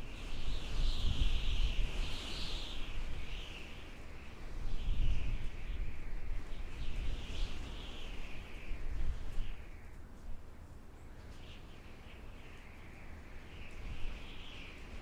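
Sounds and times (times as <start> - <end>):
low rumble of wind buffeting: 0.0 - 15.0
wind howling whistle-like hiss: 0.0 - 15.0.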